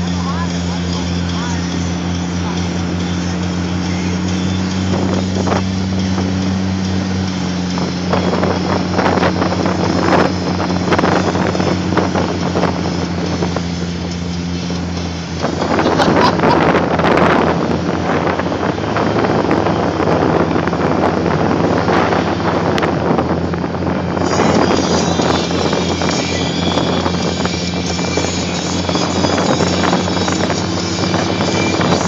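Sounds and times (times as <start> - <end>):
car engine droning: 0.0 - 32.0
wind buffeting microphone: 0.0 - 32.0.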